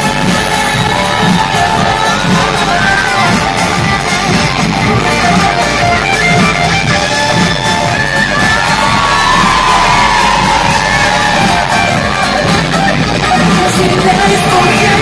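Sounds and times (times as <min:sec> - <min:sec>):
guitar: 0:00.0 - 0:15.0
live pop-rock band music: 0:00.0 - 0:15.0.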